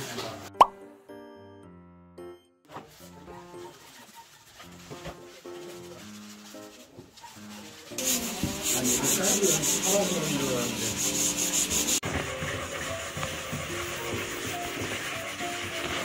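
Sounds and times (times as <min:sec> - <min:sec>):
sandpaper rubbing on wood: 0:02.9 - 0:16.0.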